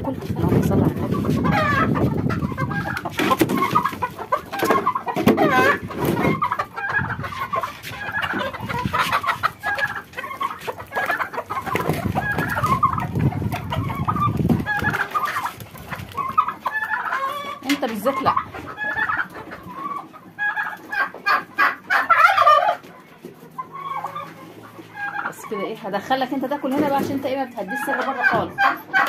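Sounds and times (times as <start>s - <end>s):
hens clucking: 0.0s - 29.0s.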